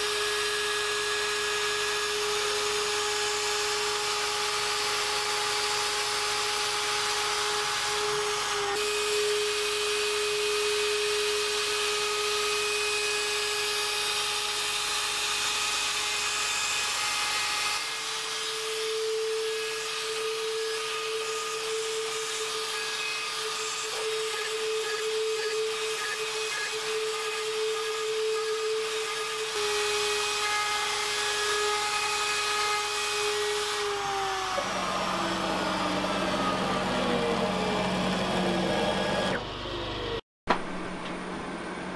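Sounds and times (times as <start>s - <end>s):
router spindle whine: 0.0s - 40.2s.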